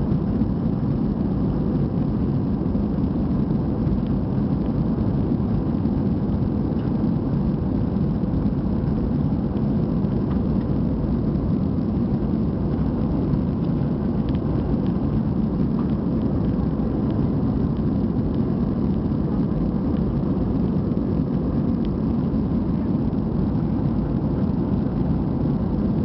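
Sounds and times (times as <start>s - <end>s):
airplane cabin engine and airflow noise: 0.0s - 26.0s.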